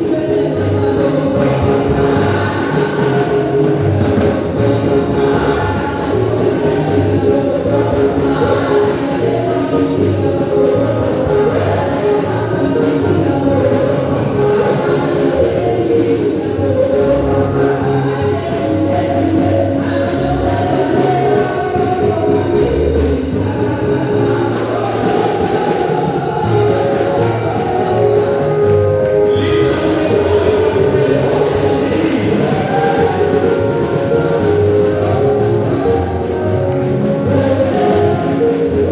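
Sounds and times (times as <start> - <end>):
bass line: 0.0 - 38.9
gospel singing: 0.0 - 38.9.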